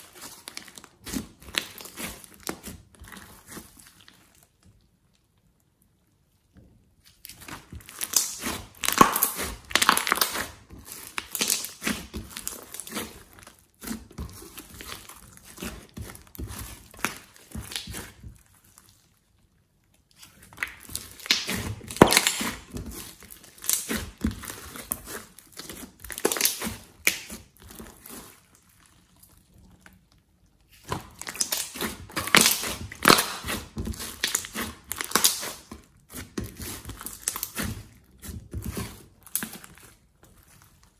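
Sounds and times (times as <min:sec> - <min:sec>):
slime squelching and crackling: 0:00.0 - 0:40.9.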